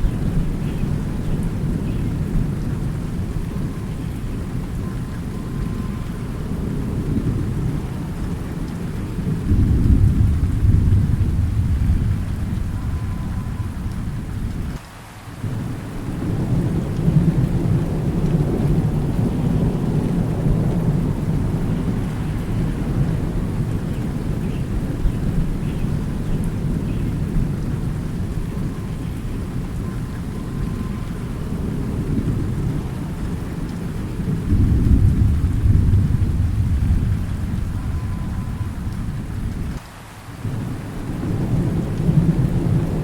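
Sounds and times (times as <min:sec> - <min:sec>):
rolling thunder: 0:00.0 - 0:14.8, 0:15.4 - 0:39.8, 0:40.4 - 0:43.0
steady rain: 0:00.0 - 0:43.0.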